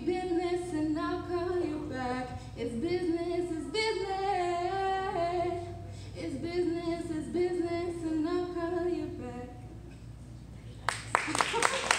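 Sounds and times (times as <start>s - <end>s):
woman singing unaccompanied: 0.0s - 9.6s.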